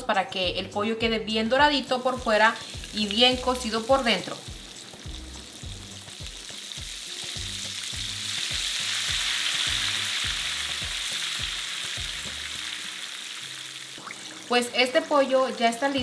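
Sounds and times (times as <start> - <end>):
chicken deep-frying in oil: 1.9 - 16.0.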